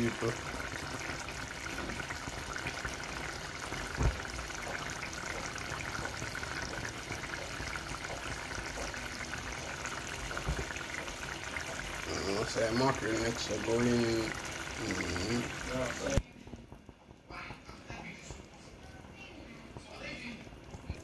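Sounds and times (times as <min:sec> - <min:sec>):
liquid boiling and bubbling: 0:00.0 - 0:21.0.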